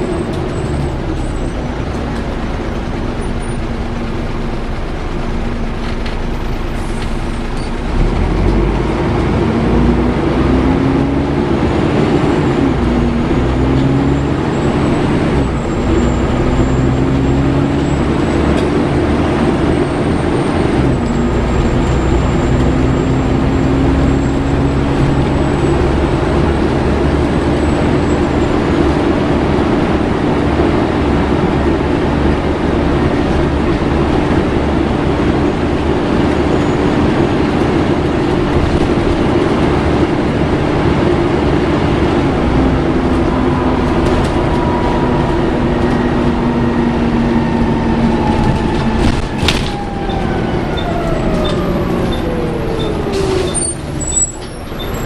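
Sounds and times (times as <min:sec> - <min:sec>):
bus engine revving through gears: 0:00.0 - 0:55.0.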